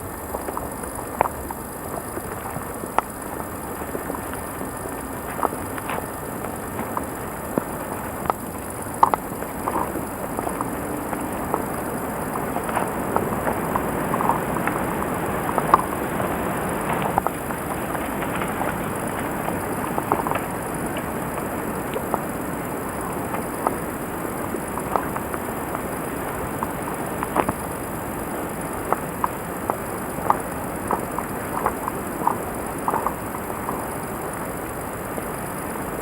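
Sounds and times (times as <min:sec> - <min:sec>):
light clicks and crackles: 0:00.0 - 0:36.0
steady hiss: 0:00.0 - 0:36.0.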